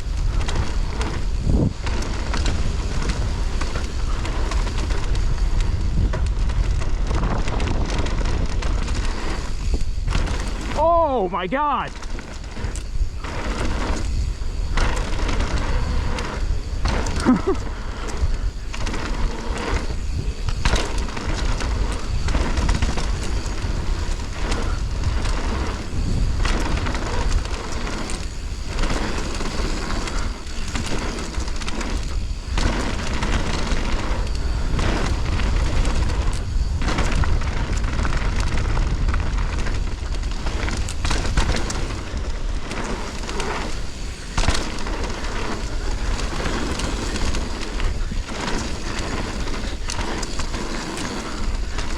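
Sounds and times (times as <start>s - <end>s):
bike rattling and knocking: 0.0s - 51.9s
tyre and wind rumble: 0.0s - 51.9s.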